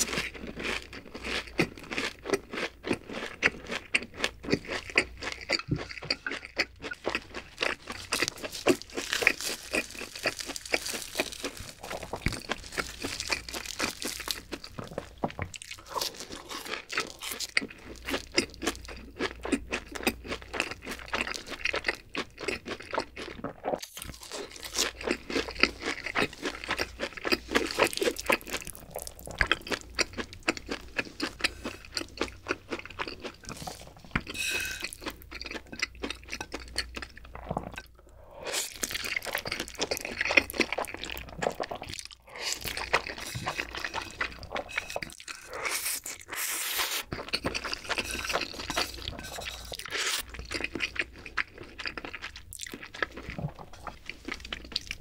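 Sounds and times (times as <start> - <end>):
chewing noodles: 0.0 - 55.0
crunching and chewing food: 0.0 - 55.0.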